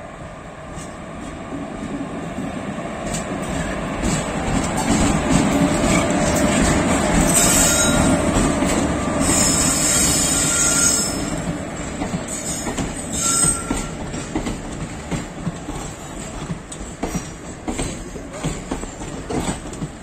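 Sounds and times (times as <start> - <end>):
electric locomotive passing: 0.0 - 20.0
train wheel noise: 0.2 - 20.0.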